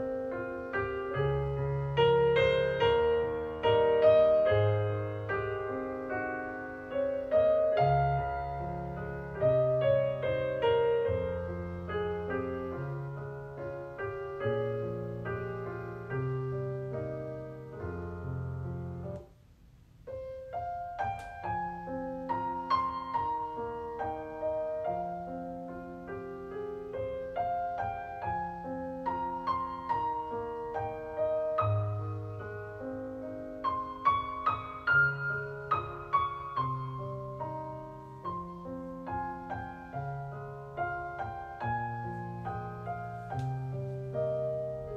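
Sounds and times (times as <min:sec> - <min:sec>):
background piano music: 0:00.0 - 0:44.9.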